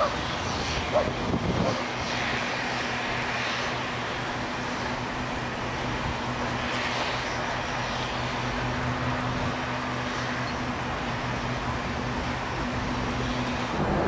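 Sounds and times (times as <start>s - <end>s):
distant engine drone: 0.0s - 14.0s
low hum: 0.0s - 14.0s.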